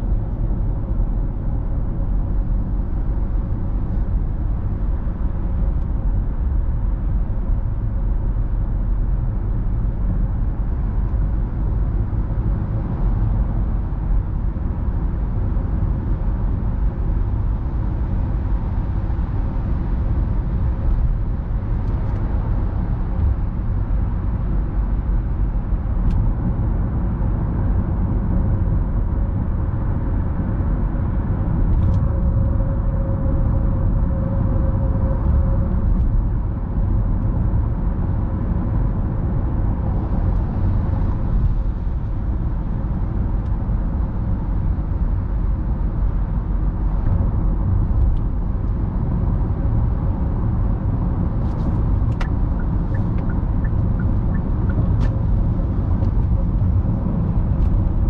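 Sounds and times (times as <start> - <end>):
car cabin tyre and engine rumble: 0.0 - 58.0.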